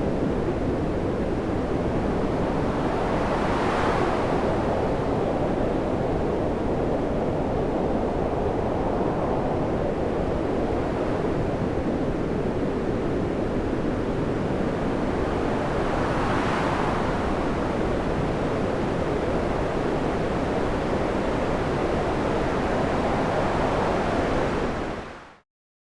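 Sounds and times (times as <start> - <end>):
waves and surf: 0.0 - 25.4
wind: 0.0 - 25.4.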